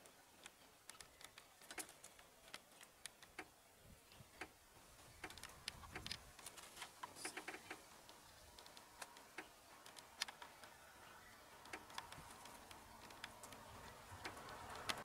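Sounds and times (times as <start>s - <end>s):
faint sharp clicks: 0.0s - 3.5s, 5.2s - 10.8s, 11.6s - 15.0s.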